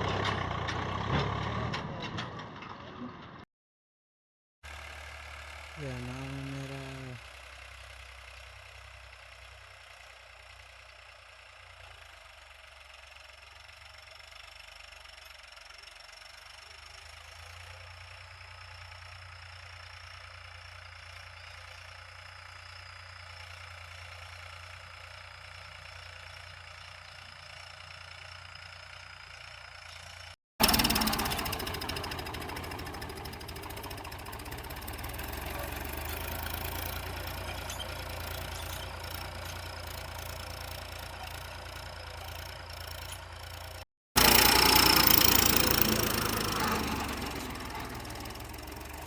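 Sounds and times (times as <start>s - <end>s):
tractor diesel engine hum: 0.0s - 3.4s, 4.7s - 49.0s.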